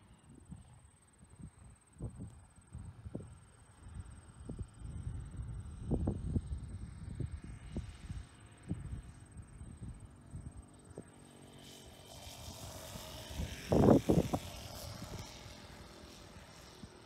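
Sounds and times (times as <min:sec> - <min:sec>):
model airplane propeller buzzing: 0:01.4 - 0:17.0.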